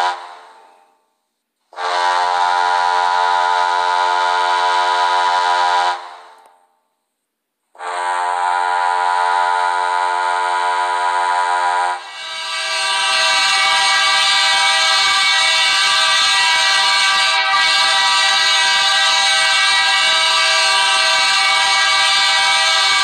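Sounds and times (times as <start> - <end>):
loud multi-tone air horn: 0.0 - 0.7, 1.7 - 6.4, 7.7 - 23.0.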